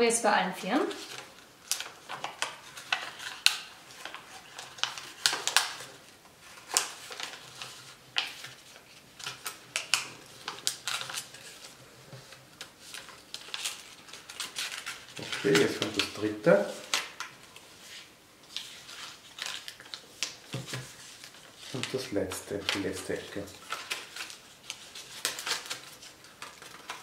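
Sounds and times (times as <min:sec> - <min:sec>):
paper being folded: 0:00.8 - 0:27.0.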